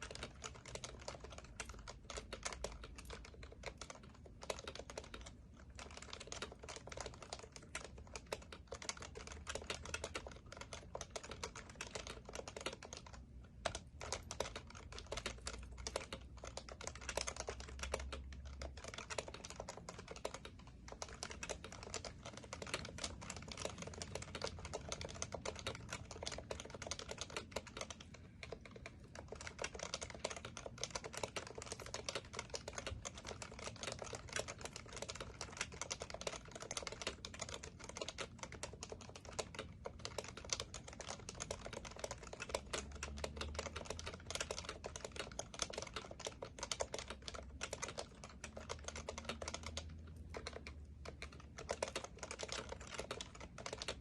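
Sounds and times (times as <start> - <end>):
fast keyboard typing: 0.0 - 54.0.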